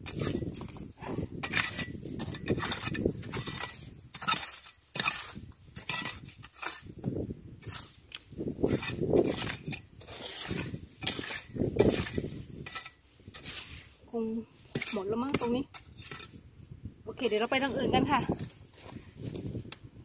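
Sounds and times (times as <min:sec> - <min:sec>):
metal rake scraping gravel: 0:00.0 - 0:07.0, 0:07.6 - 0:16.4, 0:17.2 - 0:19.0.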